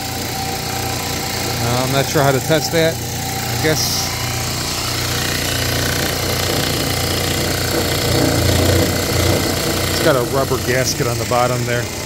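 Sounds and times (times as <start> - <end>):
electric vacuum pump humming: 0.0 - 12.0.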